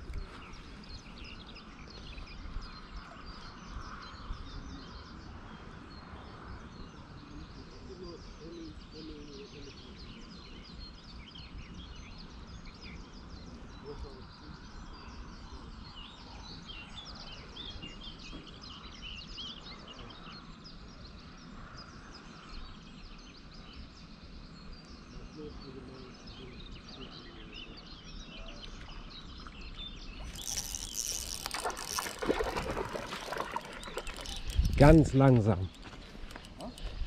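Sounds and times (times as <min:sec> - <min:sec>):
small birds chirping: 0:00.0 - 0:37.0
steady outdoor background: 0:00.0 - 0:37.0.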